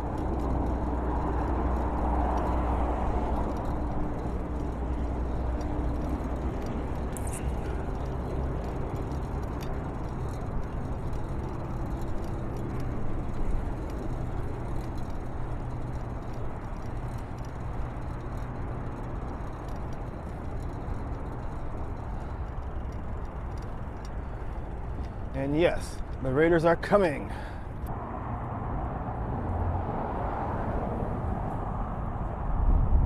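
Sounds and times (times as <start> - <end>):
wind rumble on microphone: 0.0 - 26.3, 27.6 - 33.0
motor traffic hum: 0.0 - 33.0.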